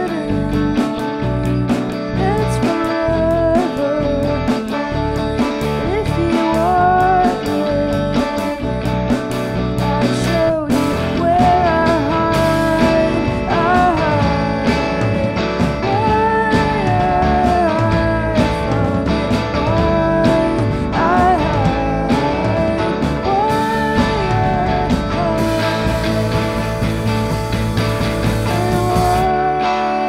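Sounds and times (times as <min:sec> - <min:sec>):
drum kit: 0:00.0 - 0:30.0
electric bass: 0:00.0 - 0:30.0
electric guitar: 0:00.0 - 0:30.0
woman singing lead: 0:00.0 - 0:30.0.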